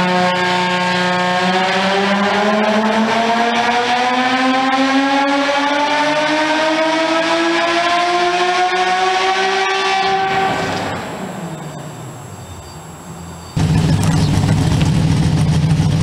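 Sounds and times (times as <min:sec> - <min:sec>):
car engine revving up: 0:00.0 - 0:12.3, 0:13.6 - 0:16.0.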